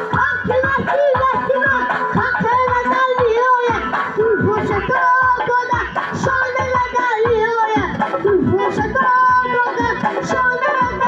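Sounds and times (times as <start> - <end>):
boy singing into microphone: 0.0 - 11.0
electronic keyboard accompaniment: 0.0 - 11.0
low drum beat: 0.1 - 11.0.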